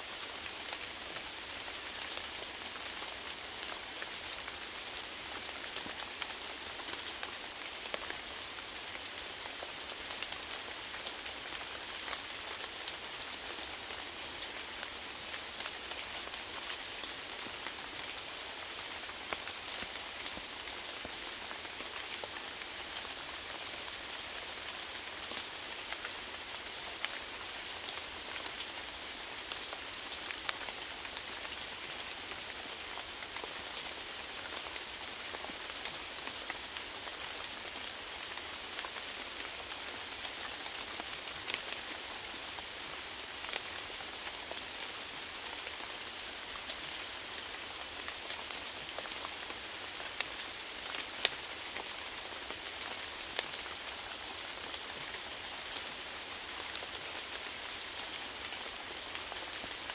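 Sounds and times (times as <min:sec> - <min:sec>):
raindrops ticking on a surface: 0:00.1 - 0:59.9.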